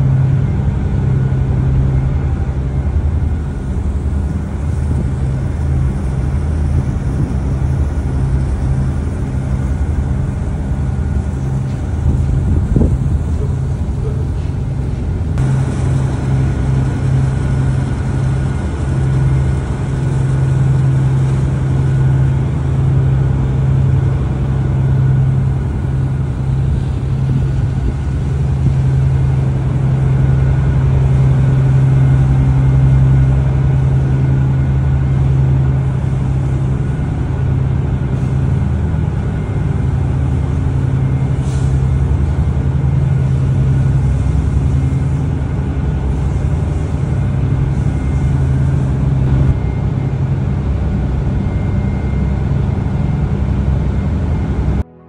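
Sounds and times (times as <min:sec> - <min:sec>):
ferry engines droning: 0:00.0 - 0:55.0.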